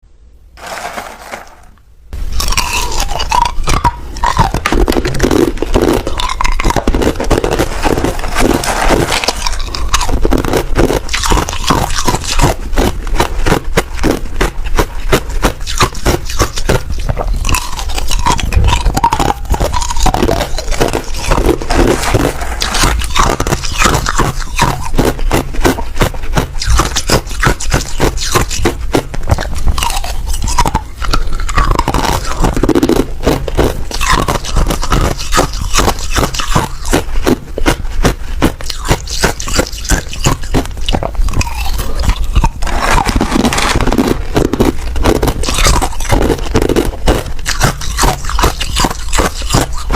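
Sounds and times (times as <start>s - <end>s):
ice crunching while chewed: 2.3s - 49.9s.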